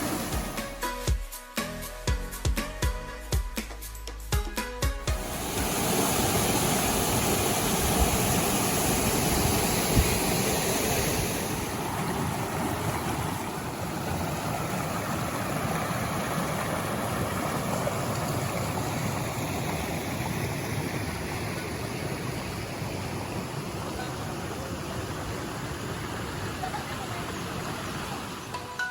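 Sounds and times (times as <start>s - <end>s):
waterfall roaring: 0.0s - 0.6s, 5.1s - 28.7s.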